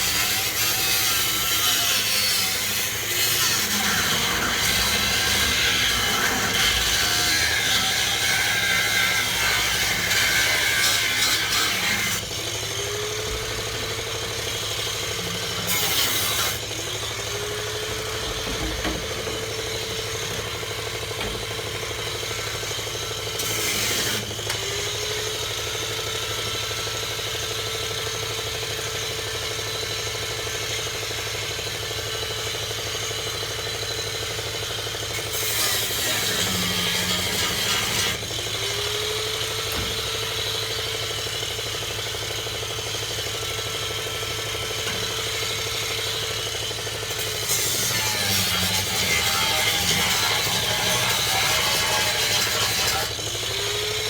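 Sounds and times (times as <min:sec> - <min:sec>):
harsh metal cutting noise: 0:00.0 - 0:26.6, 0:33.0 - 0:54.0
power tool whining: 0:00.0 - 0:54.0.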